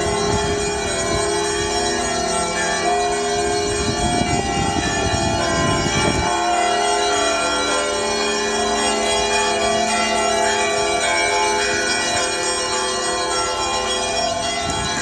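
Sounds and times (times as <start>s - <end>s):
church bells ringing in a peal: 0.0s - 15.0s
light strikes of small bells: 0.0s - 15.0s.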